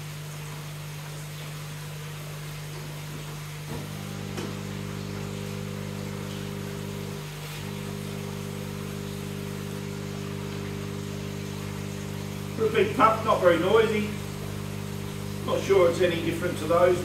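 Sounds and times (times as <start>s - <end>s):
air pump humming: 0.0s - 17.0s.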